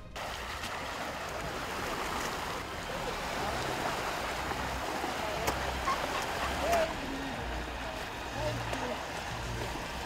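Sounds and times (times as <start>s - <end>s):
river water rushing and sloshing: 0.0s - 10.0s.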